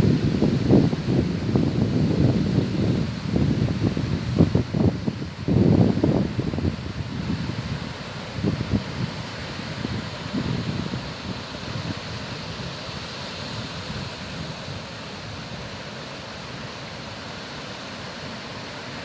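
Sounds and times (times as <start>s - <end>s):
wind buffeting microphone: 0.0s - 15.8s
sea waves surf: 0.0s - 19.0s.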